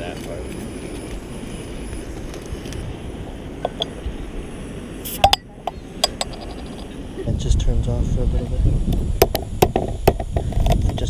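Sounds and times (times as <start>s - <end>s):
low rushing background noise: 0.0s - 10.3s.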